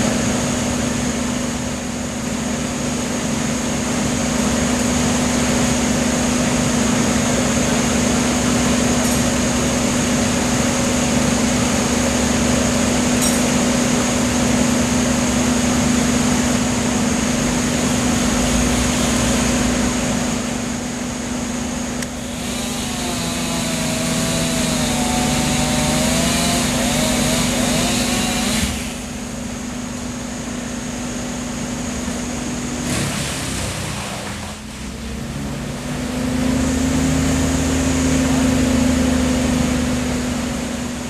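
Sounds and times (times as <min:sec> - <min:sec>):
wood chipper engine: 0:00.0 - 0:41.0.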